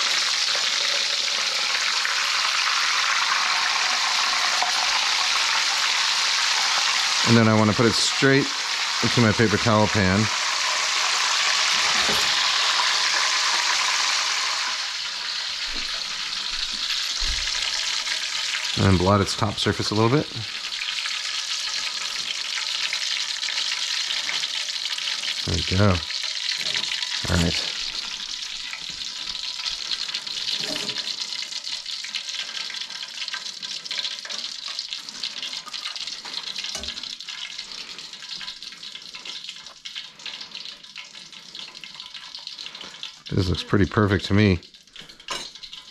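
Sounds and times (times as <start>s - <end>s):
frying oil sizzling: 0.0s - 45.9s.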